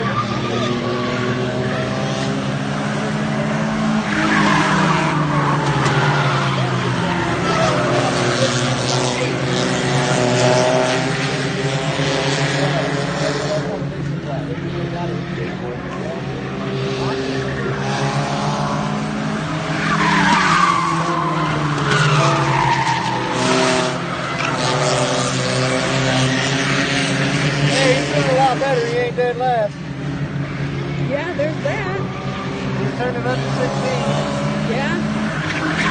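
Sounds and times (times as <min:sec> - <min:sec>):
race car engines: 0:00.0 - 0:35.9.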